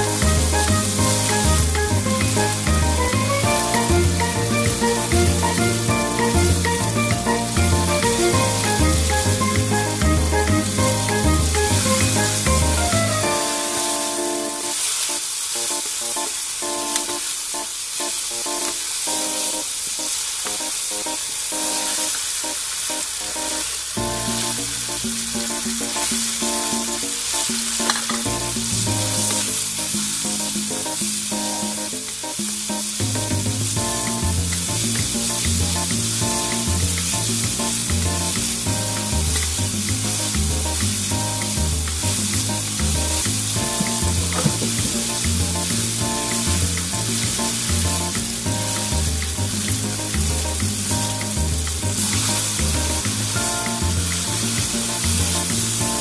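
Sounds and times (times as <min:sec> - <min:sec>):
instrumental background music: 0:00.0 - 0:56.0
vegetables sizzling in oil: 0:00.0 - 0:56.0.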